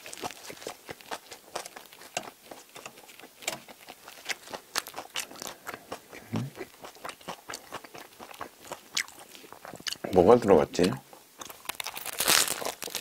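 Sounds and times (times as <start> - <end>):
crusty bread crunching when chewed: 0.0 - 13.0.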